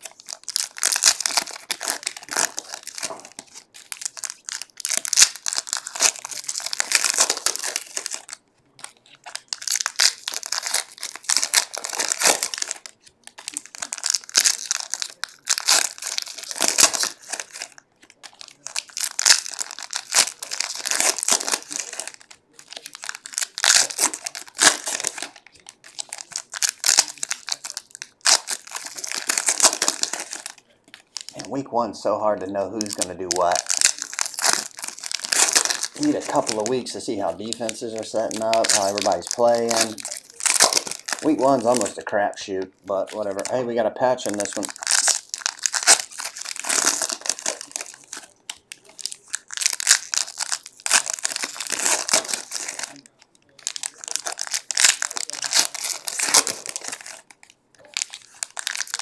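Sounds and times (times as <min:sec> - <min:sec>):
foil wrappers crinkling and tearing: 0:00.0 - 0:59.0.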